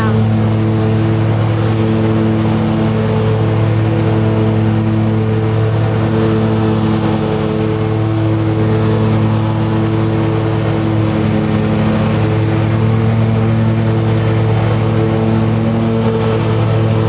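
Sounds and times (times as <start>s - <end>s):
ride-on machine engine humming: 0.0s - 17.0s.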